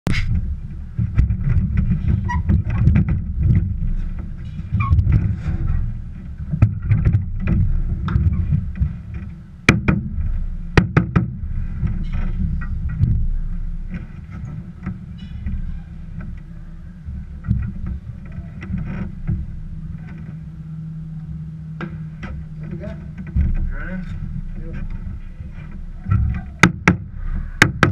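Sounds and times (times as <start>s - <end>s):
muffled low rumble: 0.1s - 27.9s.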